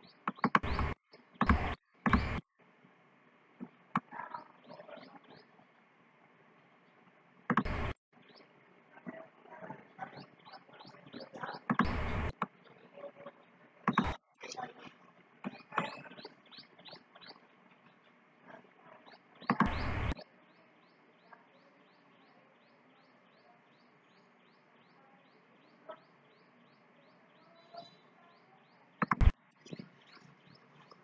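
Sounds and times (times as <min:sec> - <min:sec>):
bird chirping: 0:00.0 - 0:02.4, 0:03.6 - 0:05.8, 0:06.6 - 0:31.0.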